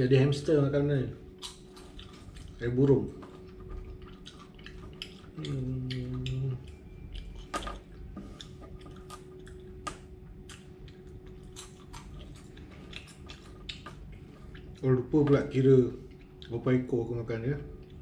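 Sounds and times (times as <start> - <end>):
closed-mouth hum: 0.0 - 18.0
crunchy chewing: 1.2 - 16.9.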